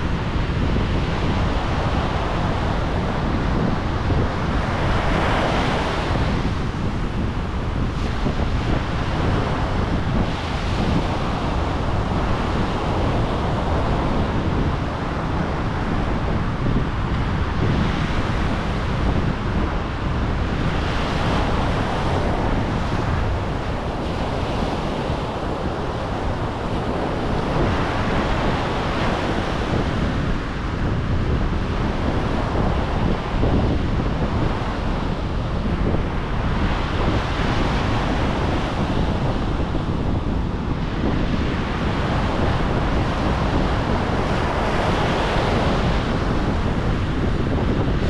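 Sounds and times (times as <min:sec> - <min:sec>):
ocean surf rushing ashore: 0:00.0 - 0:48.0.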